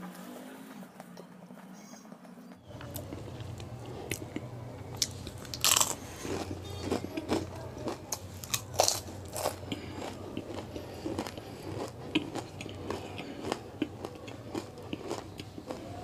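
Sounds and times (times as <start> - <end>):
crunching and chewing pastry: 2.7 - 16.0.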